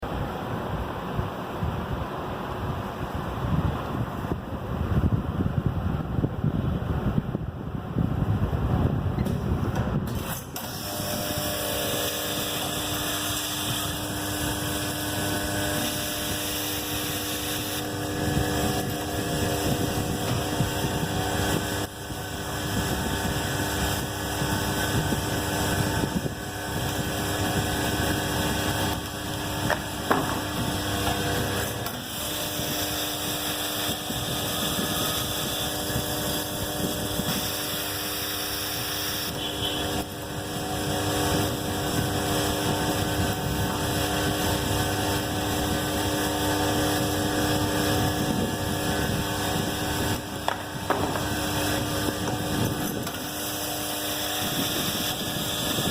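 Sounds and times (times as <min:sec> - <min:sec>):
machinery humming: 0:00.0 - 0:55.9.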